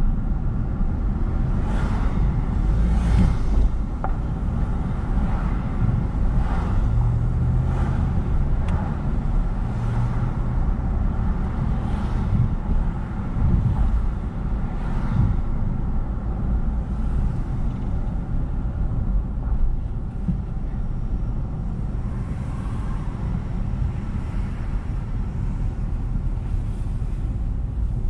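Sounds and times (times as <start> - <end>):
car engine and tyre noise: 0.0 - 28.0.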